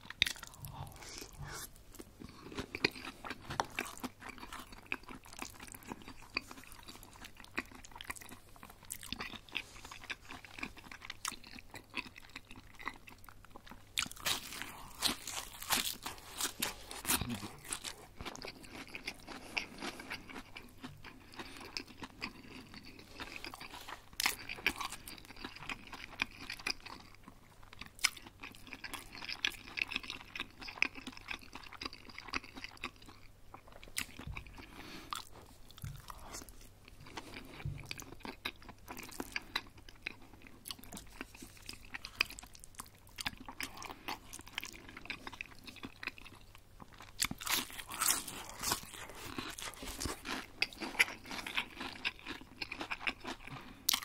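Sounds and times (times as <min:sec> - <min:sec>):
chewing crispy breaded chicken: 0:00.0 - 0:54.0.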